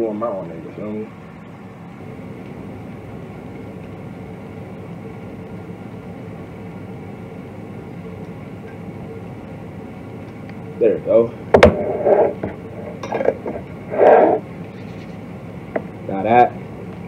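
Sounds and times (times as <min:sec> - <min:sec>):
mechanical hum with faint whine: 0:00.0 - 0:17.0.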